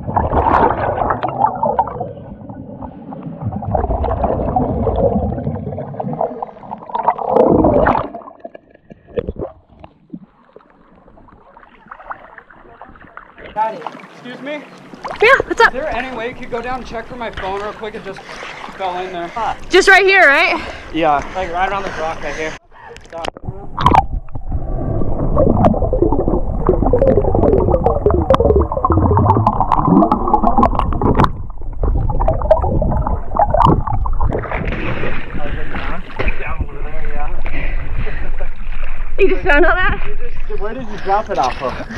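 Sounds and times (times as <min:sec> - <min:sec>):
underwater bubbling: 0:00.0 - 0:15.7, 0:22.5 - 0:41.9
water gurgles: 0:00.0 - 0:41.9.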